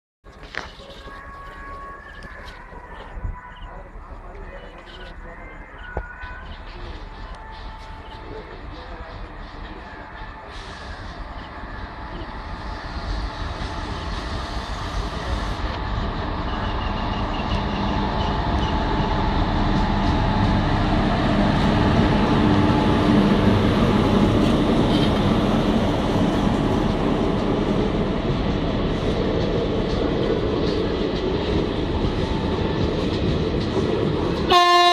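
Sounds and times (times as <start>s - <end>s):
train running rumble: 0.3s - 34.9s.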